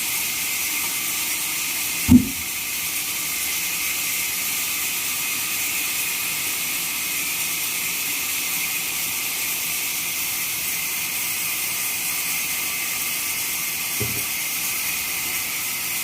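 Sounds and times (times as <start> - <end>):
band sawmill hissing: 0.0 - 16.0.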